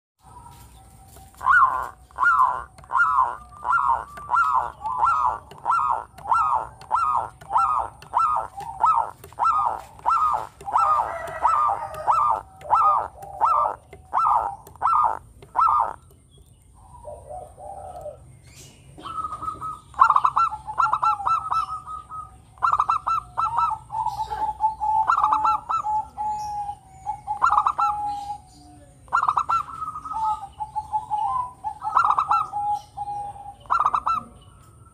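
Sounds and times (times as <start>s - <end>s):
dove cooing: 0.2s - 16.1s, 16.8s - 18.3s, 18.9s - 34.7s.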